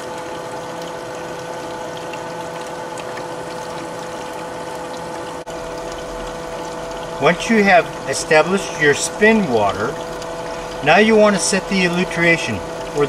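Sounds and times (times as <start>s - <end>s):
steady hum: 0.0s - 13.0s
water running through a funnel: 0.0s - 13.0s.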